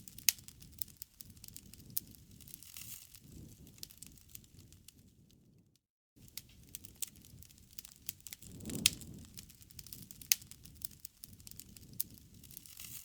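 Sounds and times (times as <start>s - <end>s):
campfire crackling: 0.0s - 5.6s, 6.2s - 13.0s.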